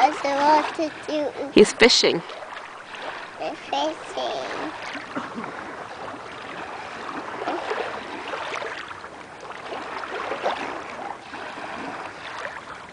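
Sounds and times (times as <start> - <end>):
water lapping against rocks: 0.0 - 12.9.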